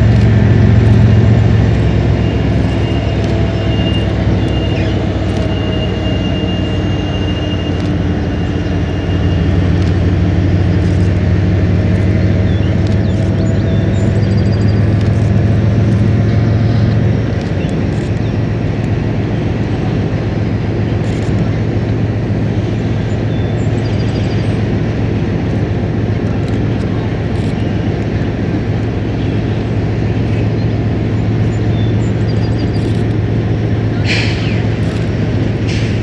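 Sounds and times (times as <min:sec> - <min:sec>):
diesel locomotive engine drone: 0:00.0 - 0:36.0
train wheels rumbling: 0:00.0 - 0:36.0.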